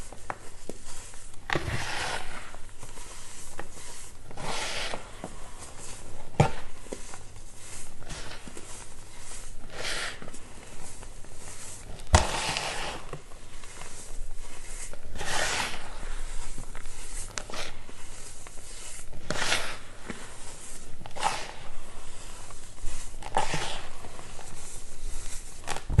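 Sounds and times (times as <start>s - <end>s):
hands crunching baking soda: 0.0s - 26.0s.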